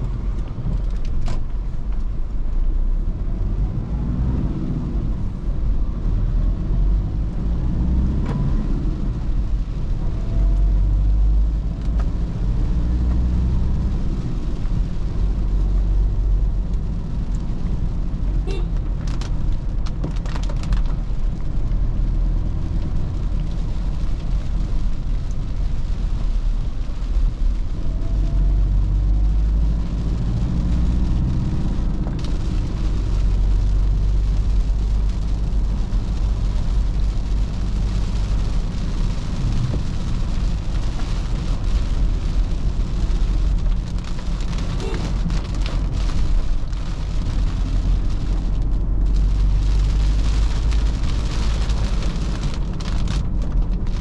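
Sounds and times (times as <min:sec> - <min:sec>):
diesel engine low rumble: 0:00.0 - 0:54.0
tyres hissing on wet road: 0:01.4 - 0:54.0.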